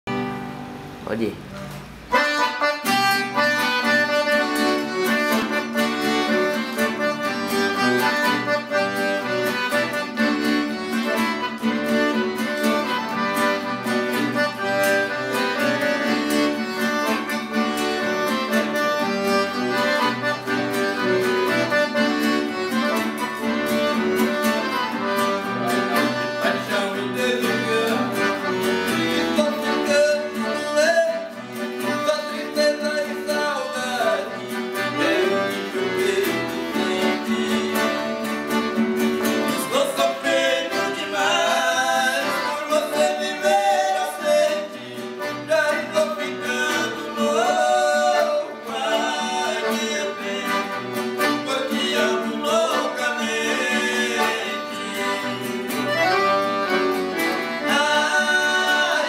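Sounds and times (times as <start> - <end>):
accordion: 0.1 - 59.0
acoustic guitar: 0.1 - 59.0.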